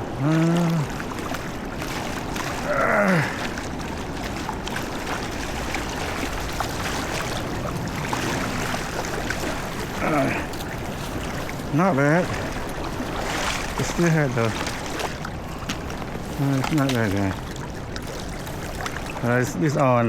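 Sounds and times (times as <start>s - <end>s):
river water rushing: 0.0s - 19.8s
small water splashes: 0.0s - 20.0s.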